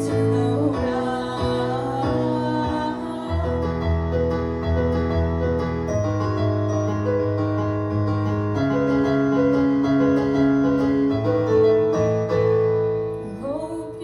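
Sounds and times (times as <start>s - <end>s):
piano keyboard chords: 0.0s - 14.0s.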